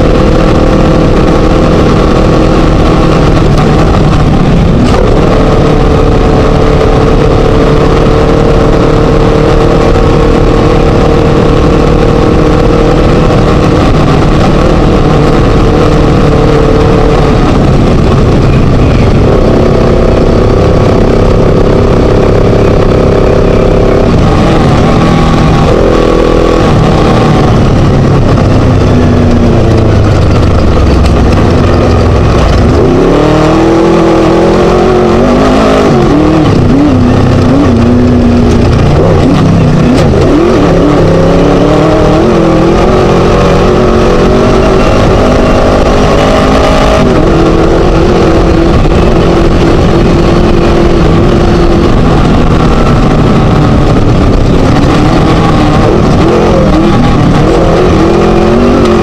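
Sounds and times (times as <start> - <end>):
racing buggy engine revving: 0.0 - 59.0.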